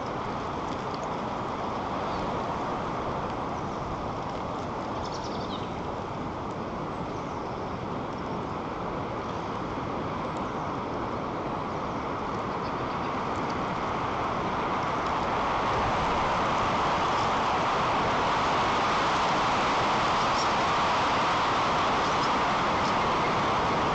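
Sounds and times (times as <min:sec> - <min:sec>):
strong wind on microphone: 0:00.0 - 0:23.9.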